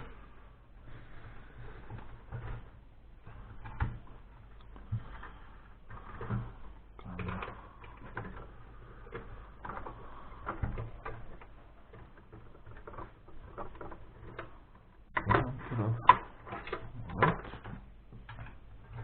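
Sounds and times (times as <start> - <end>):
computer parts clicking and knocking: 1.4 - 19.0.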